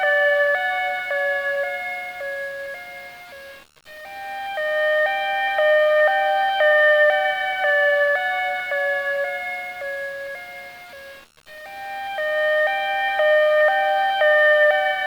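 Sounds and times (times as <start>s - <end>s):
two-tone emergency vehicle siren: 0.0s - 3.2s, 4.2s - 10.8s, 11.9s - 15.0s.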